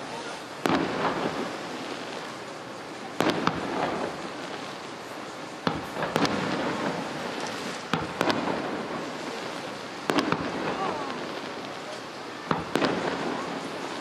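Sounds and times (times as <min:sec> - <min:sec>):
firework shells bursting: 0:00.0 - 0:14.0
steady background noise: 0:00.0 - 0:14.0.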